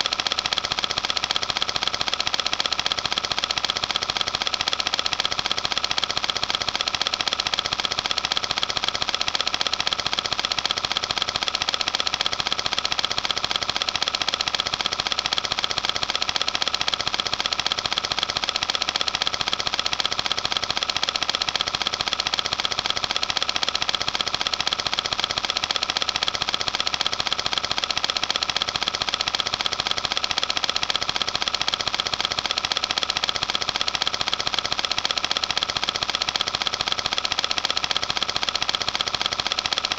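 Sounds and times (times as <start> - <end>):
film projector rattling: 0.0 - 39.9.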